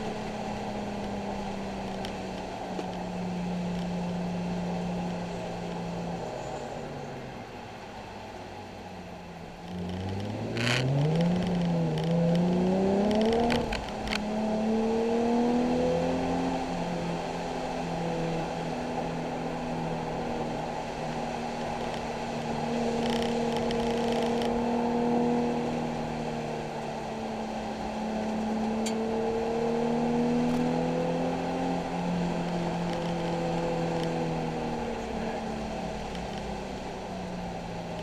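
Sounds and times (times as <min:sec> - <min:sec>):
car engine accelerating: 0:00.0 - 0:38.0
road noise hiss: 0:00.0 - 0:38.0.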